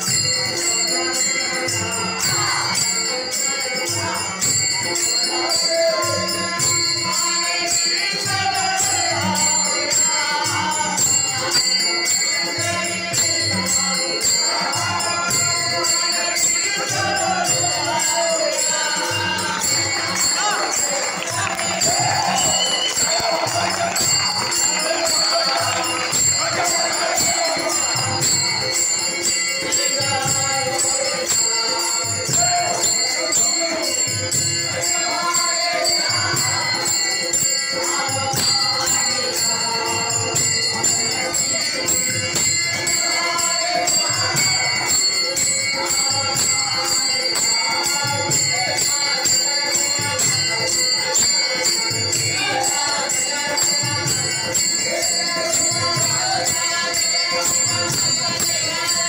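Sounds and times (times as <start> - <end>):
group singing: 0.0 - 59.0
hand cymbals ringing: 0.0 - 59.0.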